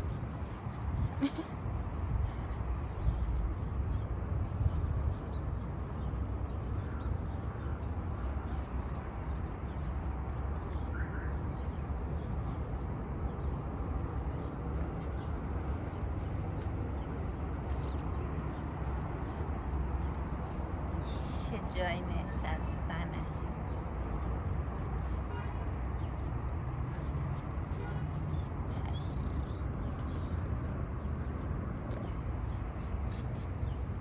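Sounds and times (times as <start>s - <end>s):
low outdoor rumble: 0.0s - 34.0s.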